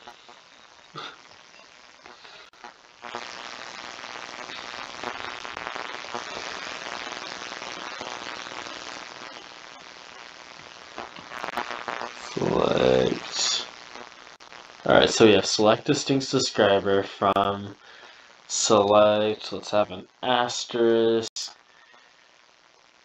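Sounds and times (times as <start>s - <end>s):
crackling hiss with ticks: 0.0s - 23.0s.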